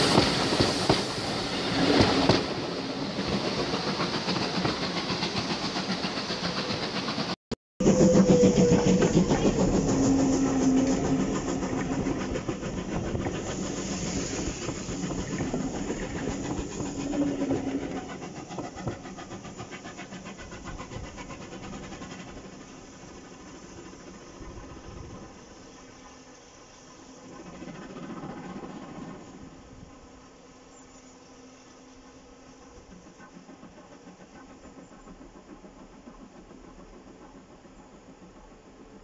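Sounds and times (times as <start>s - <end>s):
steam locomotive exhaust: 0.0s - 30.7s, 31.6s - 39.0s
train wheels on rails: 0.0s - 30.7s, 31.6s - 39.0s.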